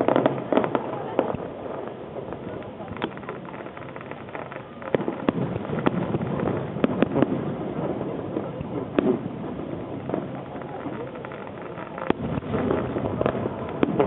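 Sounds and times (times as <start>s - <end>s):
firework shells bursting: 0.0s - 14.0s.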